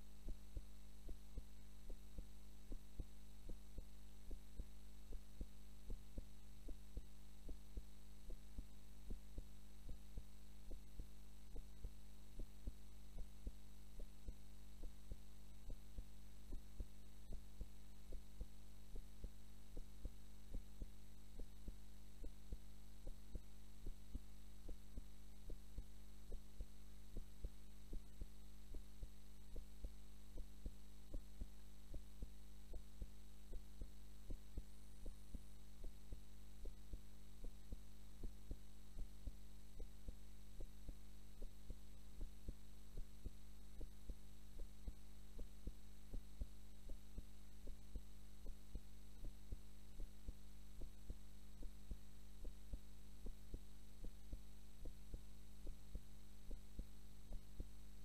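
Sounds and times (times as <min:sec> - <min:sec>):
slow heartbeat thumps: 0:00.0 - 0:57.8
steady low hum: 0:00.0 - 0:58.0.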